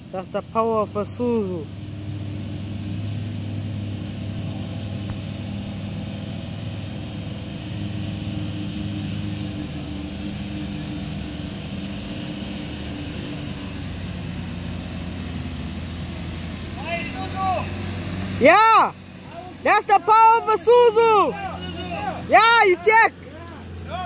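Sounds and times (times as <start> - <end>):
truck engine droning under load: 0.0 - 24.0.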